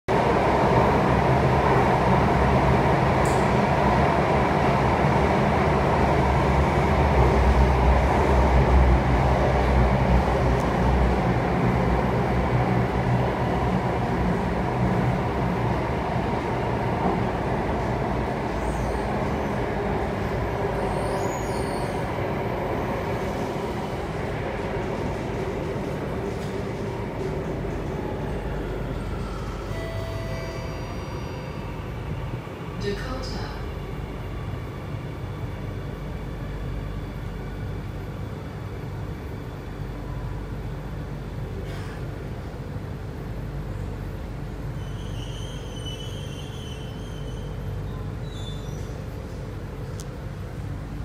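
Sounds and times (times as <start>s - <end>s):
train wheels rumbling on rail: 0.1s - 51.0s.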